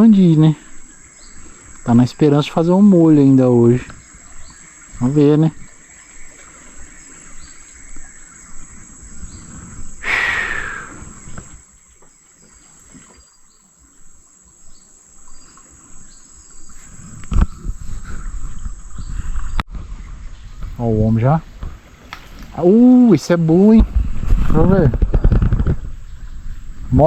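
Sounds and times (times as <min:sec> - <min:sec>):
crickets trilling: 0:00.0 - 0:19.6, 0:20.3 - 0:27.0.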